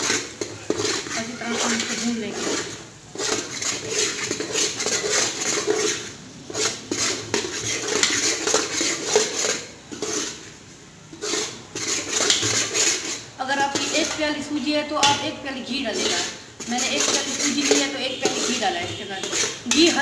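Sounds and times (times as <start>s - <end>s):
metal spoon scraping steel pot: 0.0s - 20.0s.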